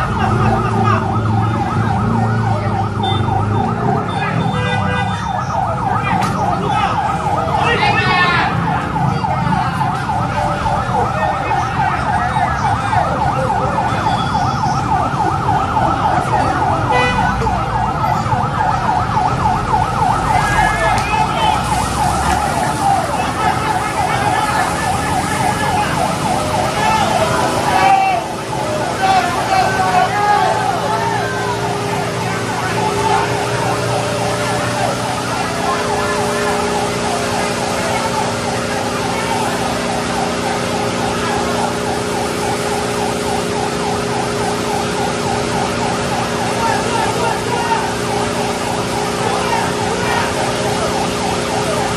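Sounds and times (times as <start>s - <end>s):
fire truck siren yelping: 0.0s - 51.9s.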